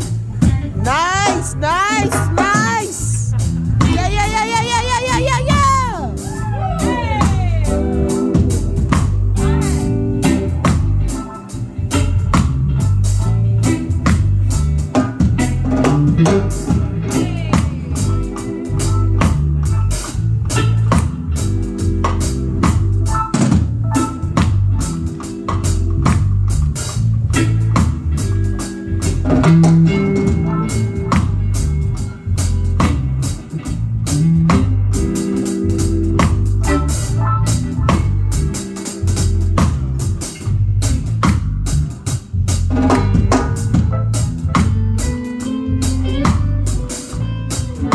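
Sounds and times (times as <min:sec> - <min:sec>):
bass: 0:00.0 - 0:47.9
drum kit: 0:00.0 - 0:47.9
electric guitar: 0:00.0 - 0:47.9.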